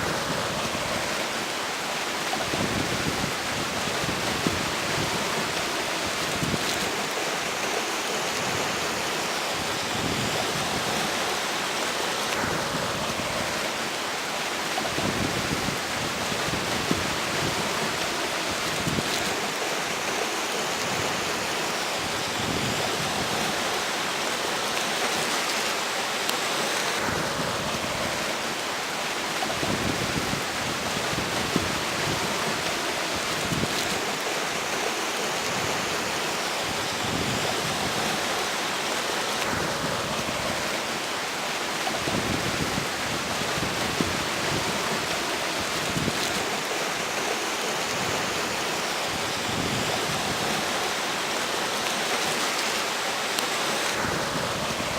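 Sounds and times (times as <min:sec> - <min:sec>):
river water rushing: 0:00.0 - 0:54.9
wind gusts: 0:00.0 - 0:54.9.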